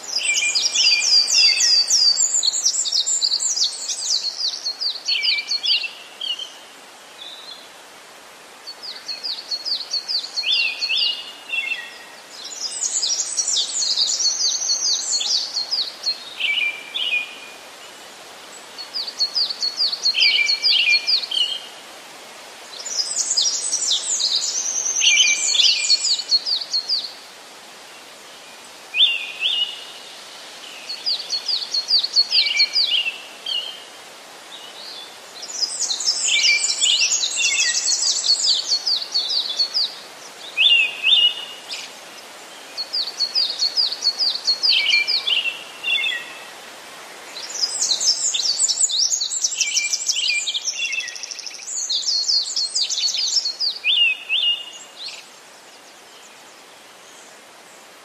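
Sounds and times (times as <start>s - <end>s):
faint hiss: 0.0s - 58.0s
songbird singing: 0.0s - 58.0s.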